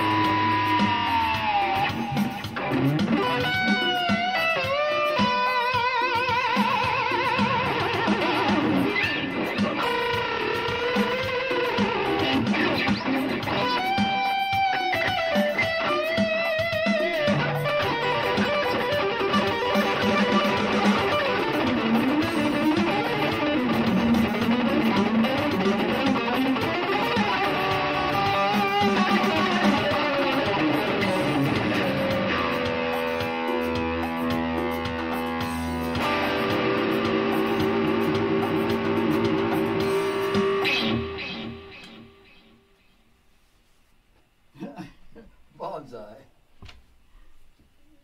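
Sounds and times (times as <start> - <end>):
electric guitar lead line: 0.0 - 43.0.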